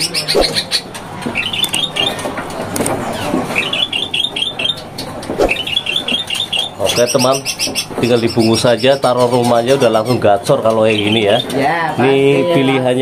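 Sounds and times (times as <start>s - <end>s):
caged bird singing rapid notes: 0.0s - 2.2s, 3.2s - 11.6s
murmur of voices: 0.0s - 13.0s.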